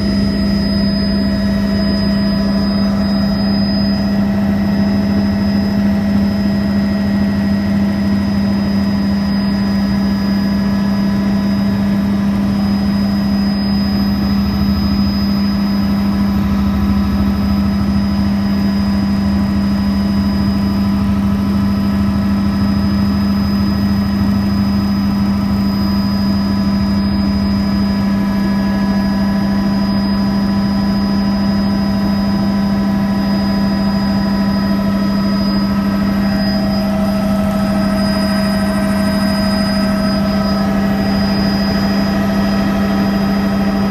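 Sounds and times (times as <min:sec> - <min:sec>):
helicopter flying: 0:00.0 - 0:43.9.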